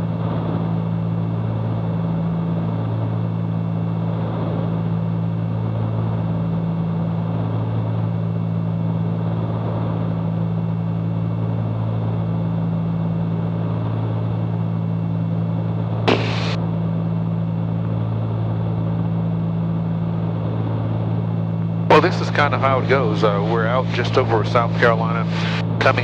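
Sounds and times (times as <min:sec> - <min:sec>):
propeller plane engines droning: 0:00.0 - 0:26.0.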